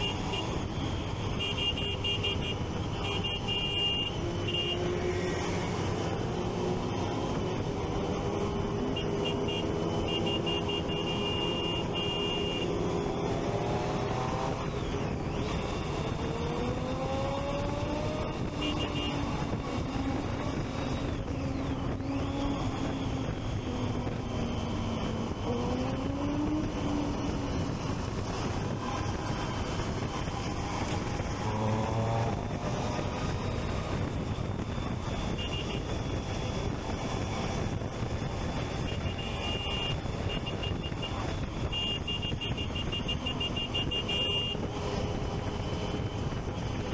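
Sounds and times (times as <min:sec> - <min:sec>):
road noise: 0:00.0 - 0:46.9
wind noise: 0:00.0 - 0:46.9
motorcycle engine revving: 0:01.2 - 0:46.9.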